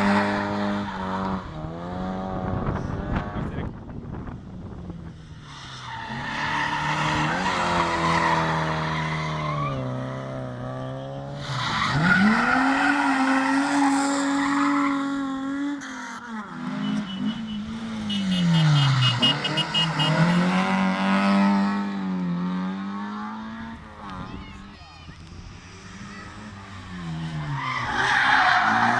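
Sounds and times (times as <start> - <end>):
rally car engines revving: 0.0 - 28.9.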